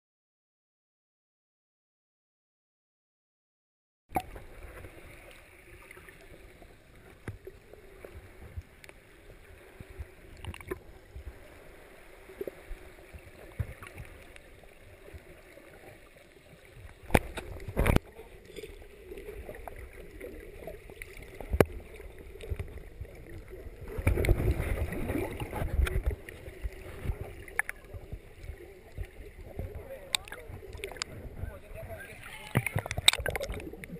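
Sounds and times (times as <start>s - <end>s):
churning water: 4.1s - 33.9s
muffled underwater water movement: 4.1s - 33.9s.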